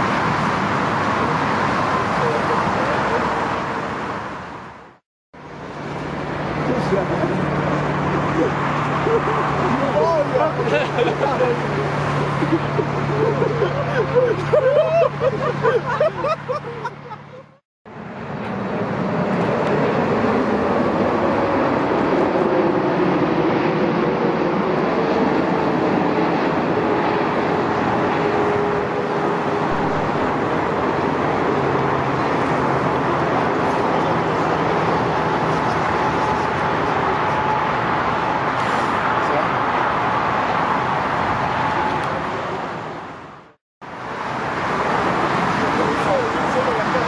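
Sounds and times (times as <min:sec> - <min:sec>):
jet engine roar: 0:00.0 - 0:47.0.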